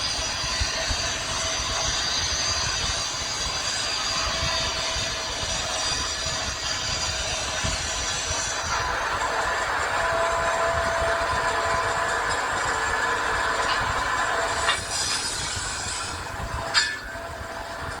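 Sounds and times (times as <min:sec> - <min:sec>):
metalworking machinery hissing: 0:00.0 - 0:18.0
thin machine whine: 0:00.0 - 0:18.0.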